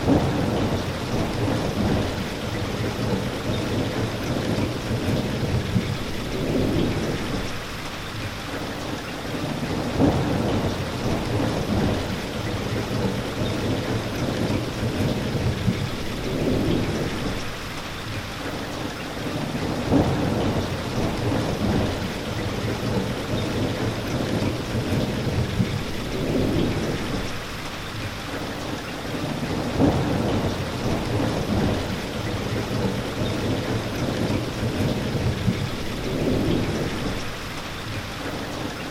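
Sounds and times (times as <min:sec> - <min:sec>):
low thunder rumbles: 0:00.0 - 0:07.7, 0:09.6 - 0:17.6, 0:19.6 - 0:27.5, 0:29.4 - 0:37.6
rain falling: 0:00.0 - 0:38.9.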